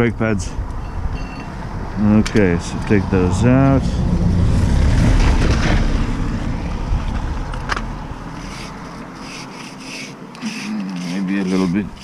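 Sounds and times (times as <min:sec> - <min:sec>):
passing motor vehicle rumble: 0:00.0 - 0:12.0.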